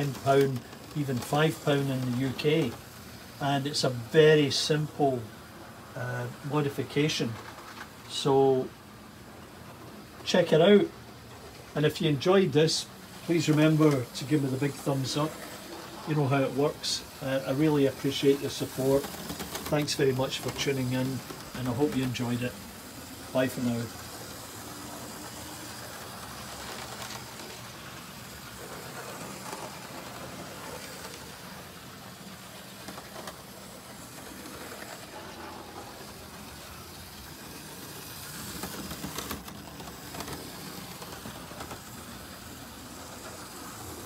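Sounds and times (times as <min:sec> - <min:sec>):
model train motor whirring: 0:00.0 - 0:03.9, 0:09.3 - 0:44.0.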